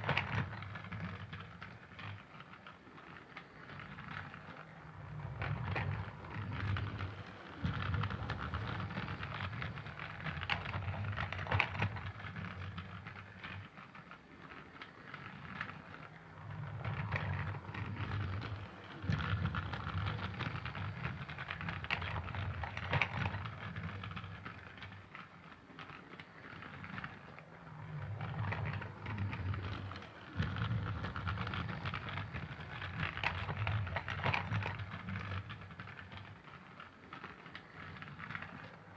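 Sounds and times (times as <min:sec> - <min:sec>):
rattle of small clicks: 0:00.0 - 0:38.9
toy train motor hum: 0:00.0 - 0:38.9.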